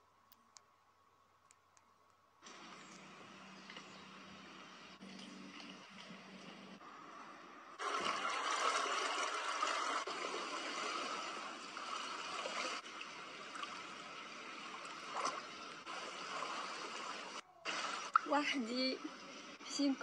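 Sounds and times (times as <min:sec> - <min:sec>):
pool water sloshing: 0:02.4 - 0:07.1, 0:07.8 - 0:20.0.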